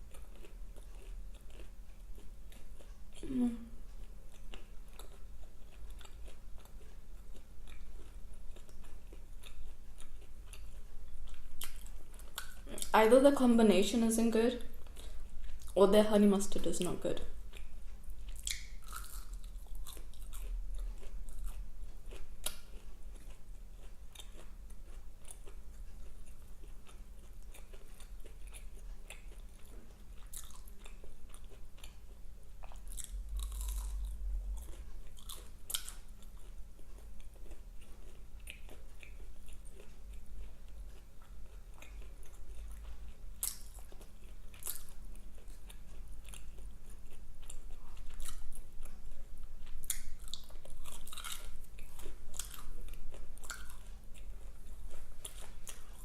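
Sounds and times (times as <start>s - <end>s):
person chewing food: 0.0s - 13.0s, 14.6s - 15.8s, 17.3s - 56.0s.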